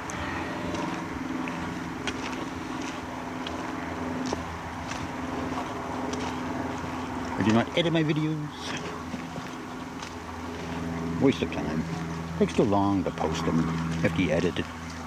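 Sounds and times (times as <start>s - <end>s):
footsteps crunching on trail: 0.0s - 15.0s
steady low hum: 0.0s - 15.0s.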